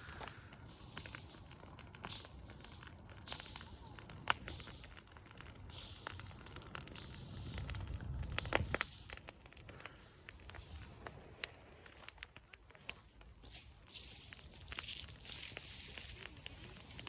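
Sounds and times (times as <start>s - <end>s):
low fire rumble: 0.0s - 17.0s
straw and leaves crackling: 0.0s - 17.0s.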